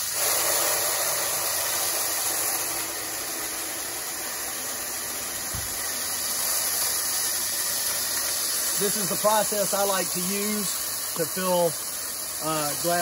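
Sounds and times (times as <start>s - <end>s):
glass grains pouring hiss: 0.0s - 13.0s.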